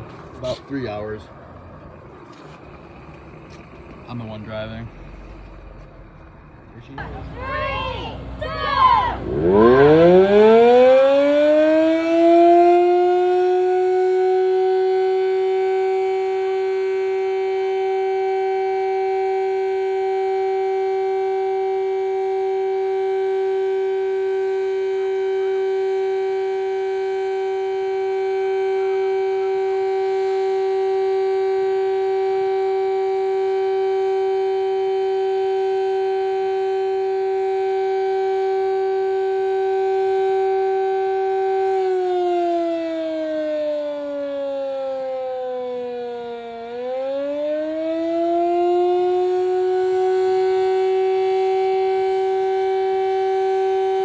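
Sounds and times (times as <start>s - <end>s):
mechanical siren wailing: 0.0s - 54.0s.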